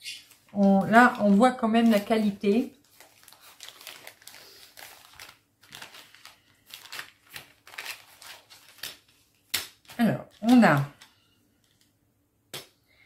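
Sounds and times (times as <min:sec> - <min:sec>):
plastic sachet crinkling: 0:00.2 - 0:11.9.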